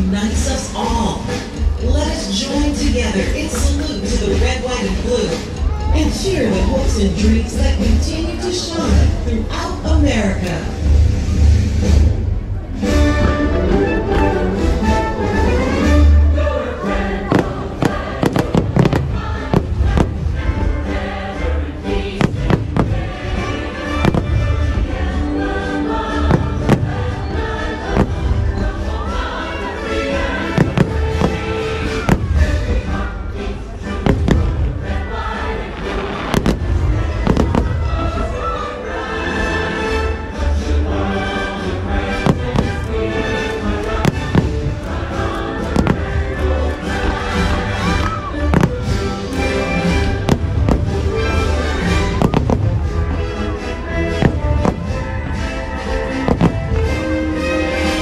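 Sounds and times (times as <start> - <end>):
show music: 0.0 - 58.0.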